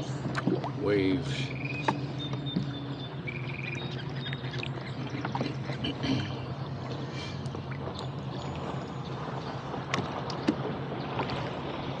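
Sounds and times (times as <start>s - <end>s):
water lapping around a boat: 0.0s - 12.0s.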